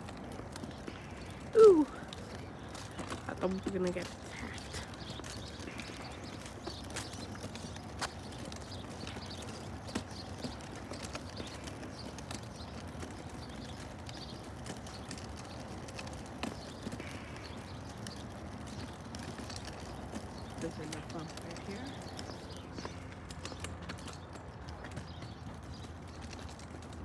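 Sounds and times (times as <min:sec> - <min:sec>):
footsteps on pavement: 0:00.0 - 0:27.0
outdoor background noise: 0:00.0 - 0:27.0.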